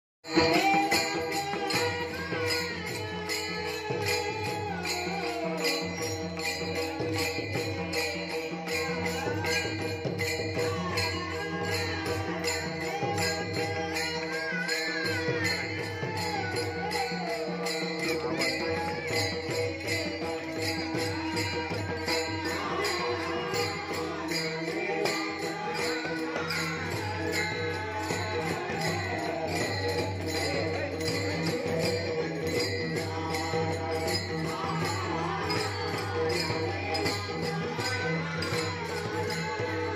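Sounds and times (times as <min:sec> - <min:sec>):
hand cymbals clashing: 0:00.2 - 0:39.9.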